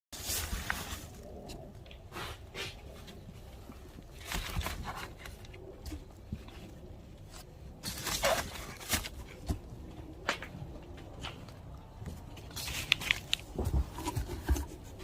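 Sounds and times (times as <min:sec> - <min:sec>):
rustling scraping and tearing: 0:00.1 - 0:09.8, 0:12.2 - 0:15.0.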